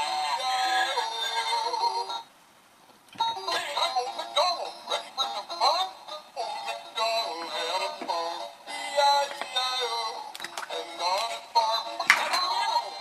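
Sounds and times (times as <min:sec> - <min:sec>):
children's song with synthetic singing: 0:00.0 - 0:02.3, 0:03.1 - 0:13.0.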